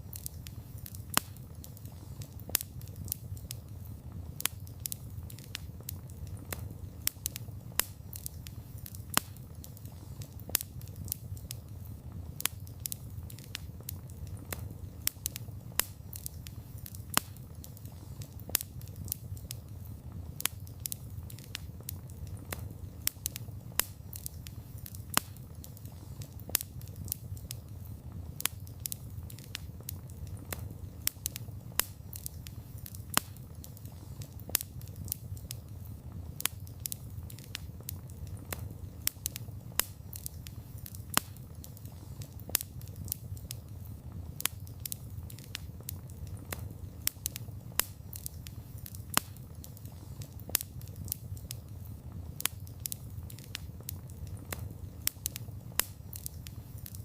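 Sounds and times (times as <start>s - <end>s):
campfire crackling and popping: 0.0s - 57.0s
low rumble of flame: 0.0s - 57.0s.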